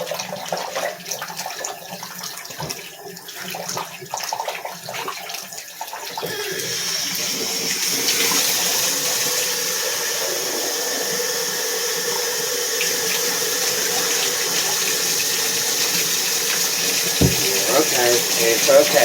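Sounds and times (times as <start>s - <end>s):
tap water running in a bath: 0.0s - 19.0s.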